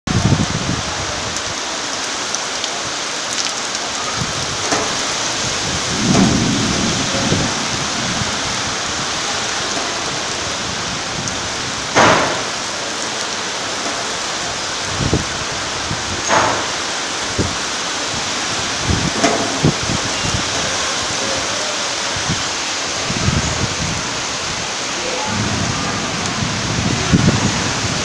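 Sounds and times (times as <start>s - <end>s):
rain and wind hissing: 0.1s - 28.0s.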